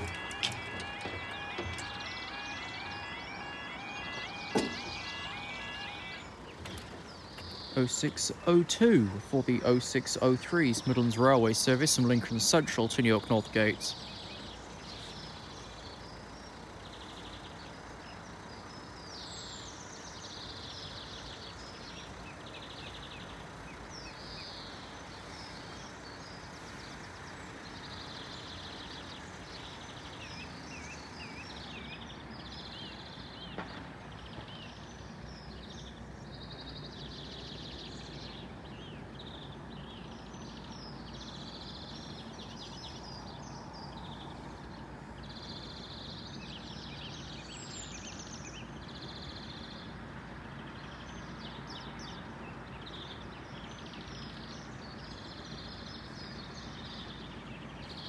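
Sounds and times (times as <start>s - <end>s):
birds singing: 0.0s - 58.0s.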